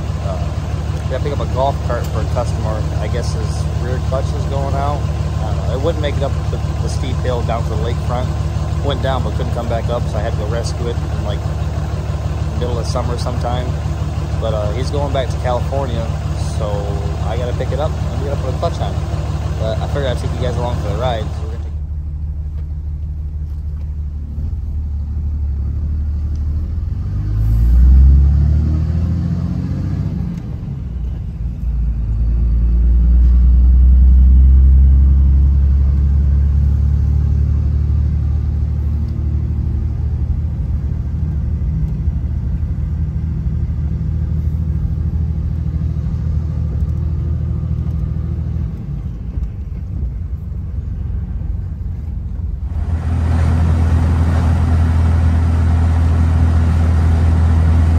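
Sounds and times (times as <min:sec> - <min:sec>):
diesel engine revving: 0:00.0 - 0:57.9.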